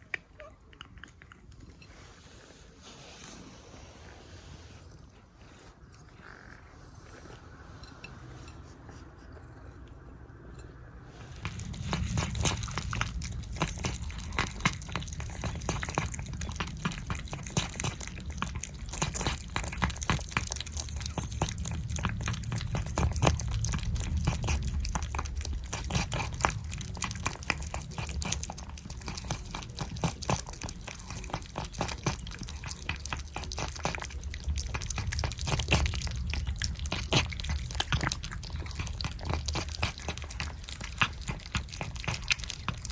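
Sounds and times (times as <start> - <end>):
cats licking wet paste: 0.0 - 3.6, 7.2 - 42.9.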